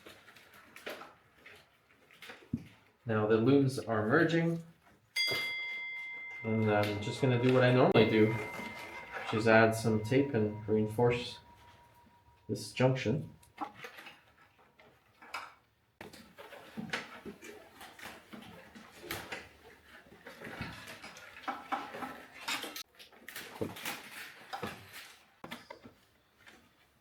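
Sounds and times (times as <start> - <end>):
wiring loom rustling and clicking: 0.0 - 27.0.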